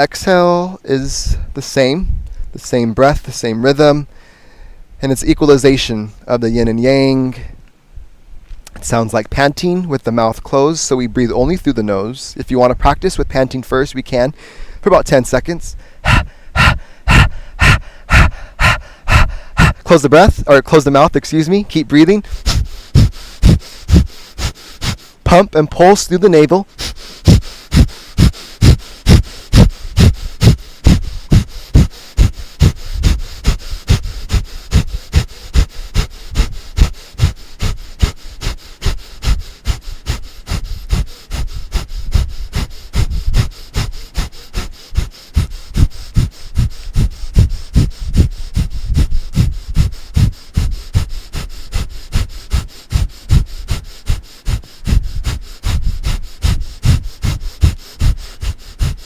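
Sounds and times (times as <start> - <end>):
rapid forceful breath puffs: 0.0 - 8.7, 9.4 - 59.0.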